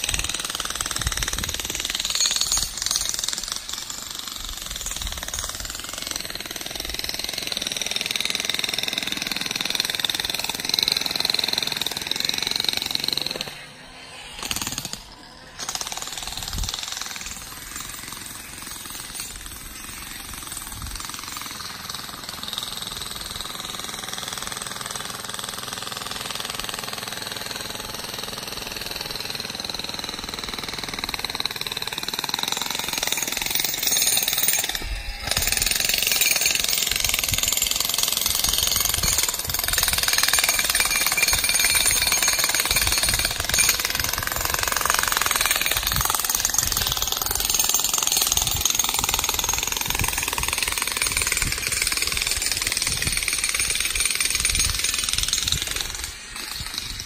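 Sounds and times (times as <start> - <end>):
jackhammer pounding rocky ground: 0.0 - 13.6, 14.4 - 57.0.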